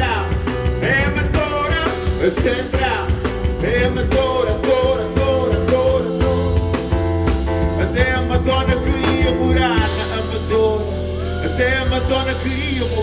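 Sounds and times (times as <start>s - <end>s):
wordless singing voice: 0.0s - 6.8s, 7.8s - 13.0s
drum kit: 0.0s - 13.0s
electric keyboard chords: 0.0s - 13.0s.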